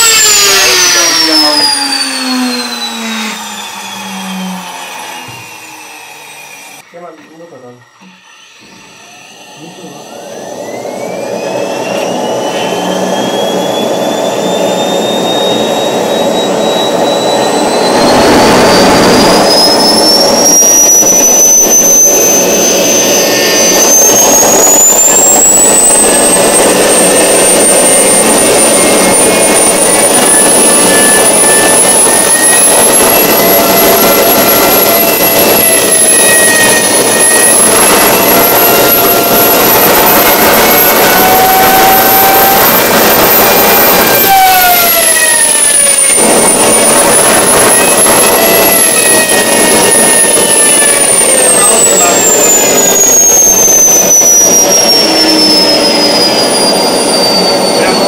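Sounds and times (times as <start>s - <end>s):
jet engine rushing roar: 0.0s - 58.0s
jet engine whine rising: 0.0s - 58.0s.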